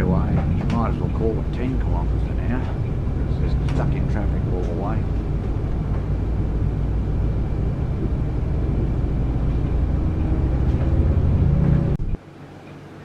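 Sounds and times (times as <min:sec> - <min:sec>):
bus engine rumble: 0:00.0 - 0:12.2.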